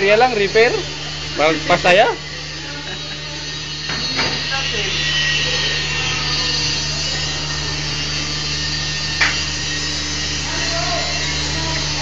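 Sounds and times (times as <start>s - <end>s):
workshop machine hum: 0.0s - 12.0s.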